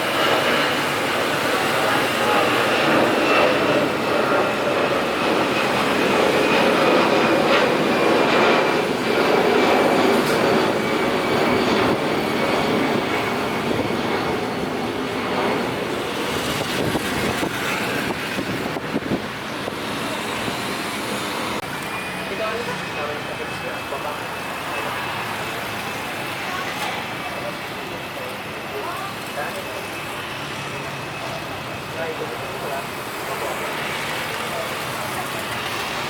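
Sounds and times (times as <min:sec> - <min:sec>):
jet airliner engines roaring: 0:00.0 - 0:36.0.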